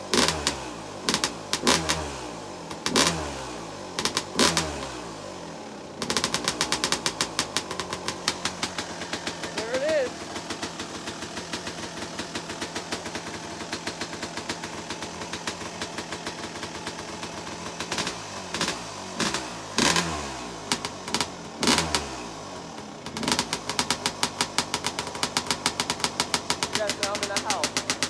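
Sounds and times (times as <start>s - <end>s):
two-stroke engine idling and revving: 0.0s - 28.0s.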